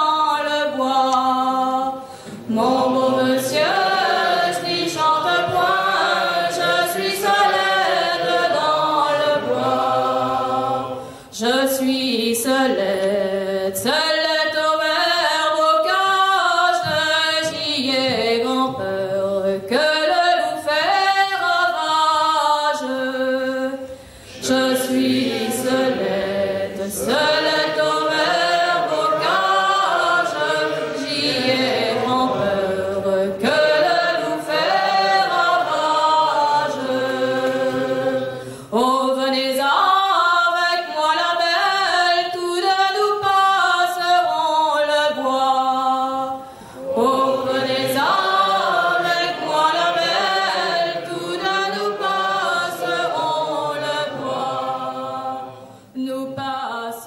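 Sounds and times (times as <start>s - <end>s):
voices singing a cappella: 0.0s - 57.0s.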